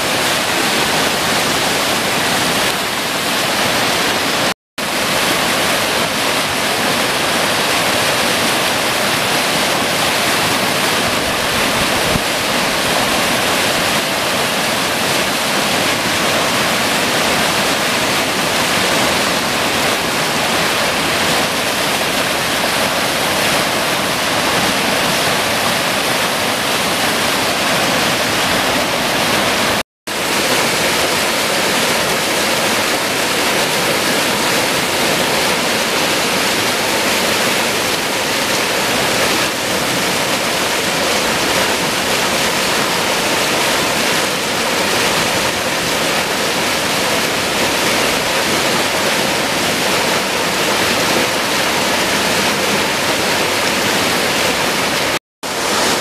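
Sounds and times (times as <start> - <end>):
water gushing into pool: 0.0 - 56.0.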